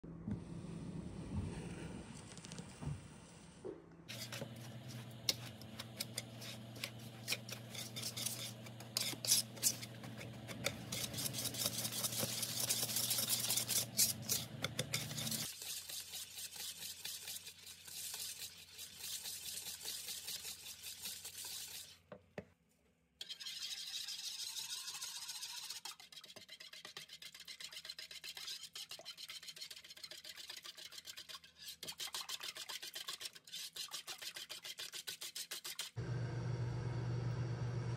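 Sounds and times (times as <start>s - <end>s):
whisk beating wet ingredients: 4.1s - 22.0s, 23.2s - 35.9s
whisk scratching in plastic bowl: 4.1s - 22.0s, 23.2s - 35.9s.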